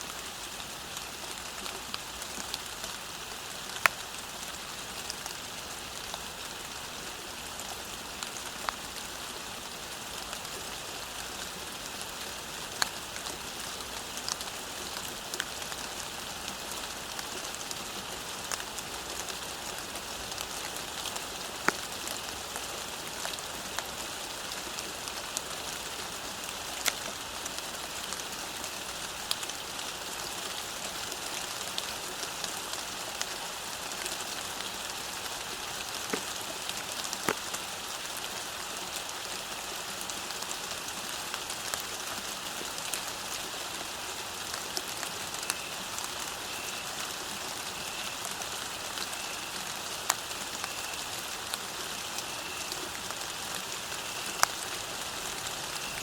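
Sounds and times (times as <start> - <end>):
rain falling on a road: 0.0 - 56.0.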